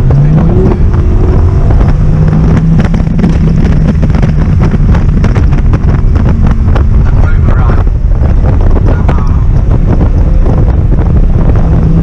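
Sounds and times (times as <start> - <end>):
car engine revving: 0.0 - 12.0
wind buffeting microphone: 0.0 - 12.0.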